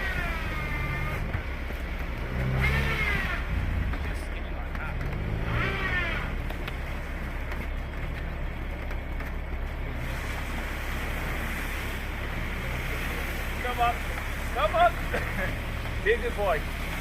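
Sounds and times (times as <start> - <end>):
car engine revving: 0.0 - 17.0
continuous rushing noise: 0.0 - 17.0.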